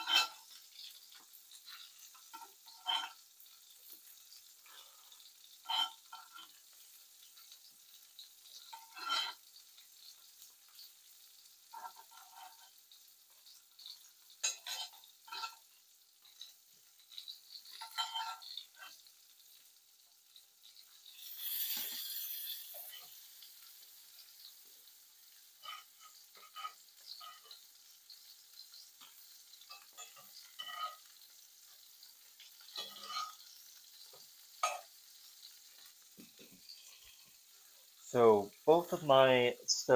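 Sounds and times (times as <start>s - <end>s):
utensil scraping and clinking pan: 0.0s - 7.5s, 8.1s - 10.9s, 11.6s - 19.0s, 21.0s - 24.5s, 25.6s - 35.0s, 35.7s - 37.4s
pancakes sizzling in pans: 0.0s - 39.9s.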